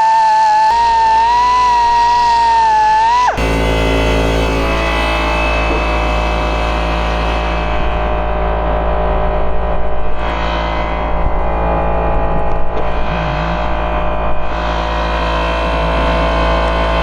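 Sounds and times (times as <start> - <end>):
air-powered grinder whining: 0.0 - 17.0.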